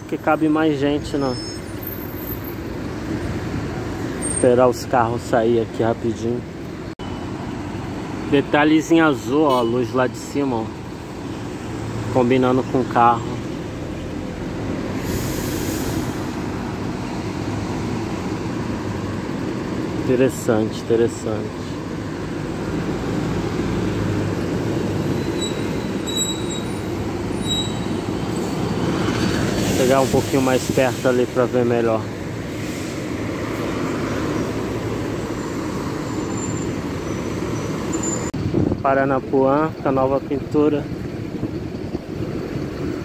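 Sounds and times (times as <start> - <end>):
bus passing by: 0.0 - 38.8
bus engines humming: 0.0 - 43.0
traffic noise: 0.0 - 43.0.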